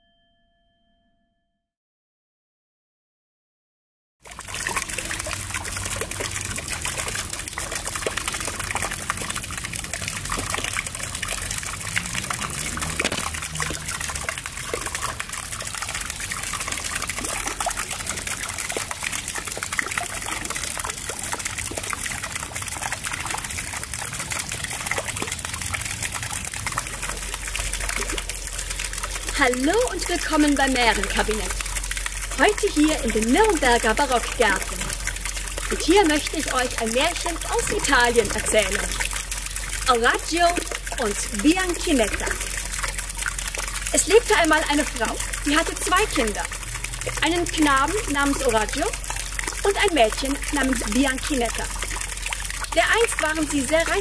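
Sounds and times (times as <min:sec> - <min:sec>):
fountain water splashing into basin: 0:04.2 - 0:54.0.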